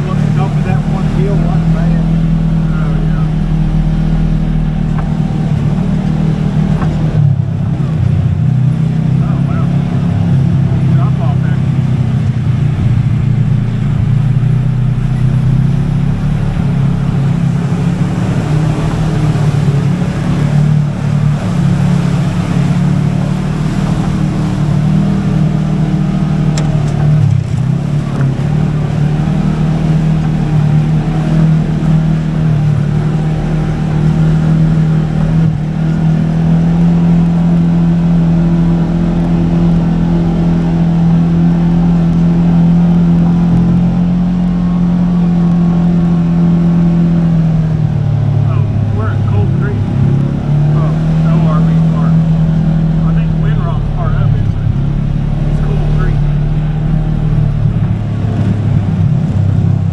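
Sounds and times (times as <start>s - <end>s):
utility vehicle engine running: 0.0s - 59.9s.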